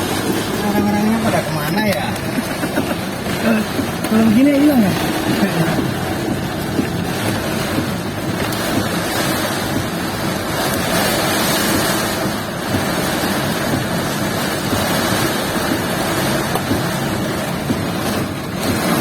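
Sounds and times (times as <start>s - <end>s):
storm wind and rain rushing: 0.0s - 19.0s.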